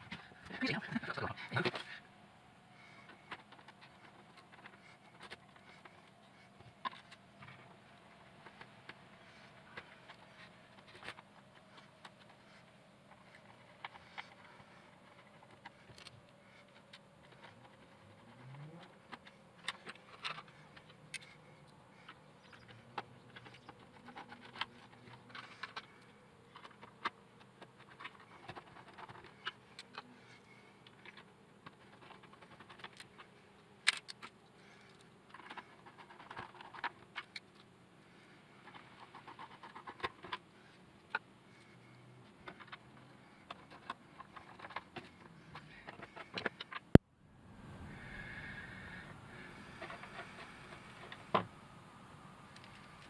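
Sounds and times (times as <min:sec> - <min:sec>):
plastic parts clicking and scraping: 0:02.9 - 0:47.0.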